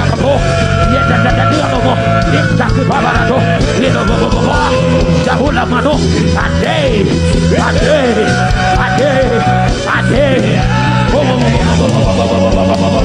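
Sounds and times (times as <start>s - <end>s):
sustained low chords: 0.0s - 13.0s.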